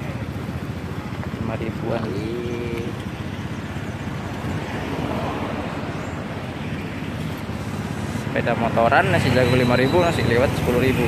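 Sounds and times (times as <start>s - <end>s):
cars passing: 0.0s - 11.0s
motorbikes passing: 0.0s - 11.0s.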